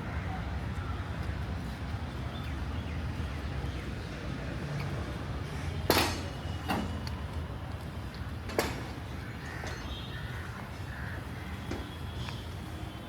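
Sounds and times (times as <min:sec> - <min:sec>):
traffic hum: 0:00.0 - 0:13.0.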